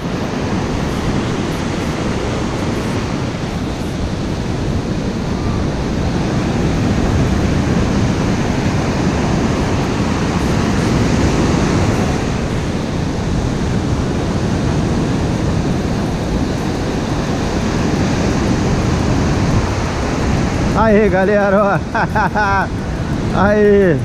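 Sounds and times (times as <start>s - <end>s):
foamy swash running up sand: 0.0s - 24.0s
ocean surf breaking: 0.0s - 24.0s.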